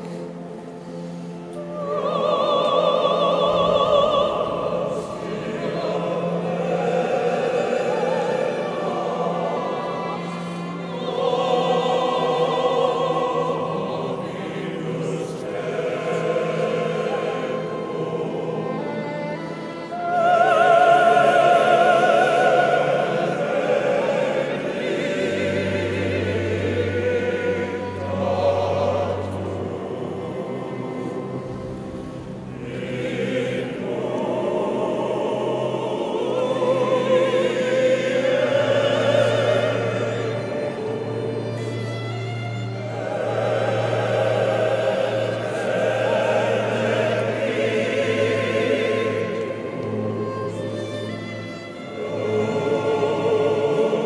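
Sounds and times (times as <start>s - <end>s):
men's choir singing: 0.0s - 54.0s.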